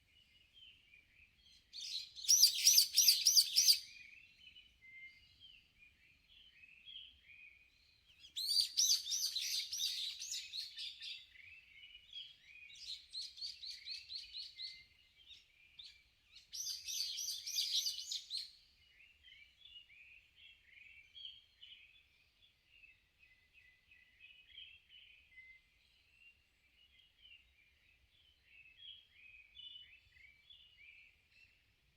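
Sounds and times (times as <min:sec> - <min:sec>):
birds chirping softly: 0:00.0 - 0:31.9.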